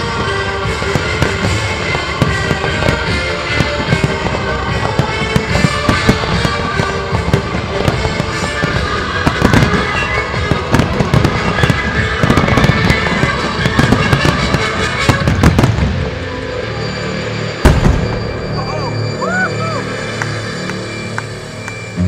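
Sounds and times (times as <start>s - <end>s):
fireworks bangs and crackles: 0.0s - 22.0s
show music: 0.0s - 22.0s.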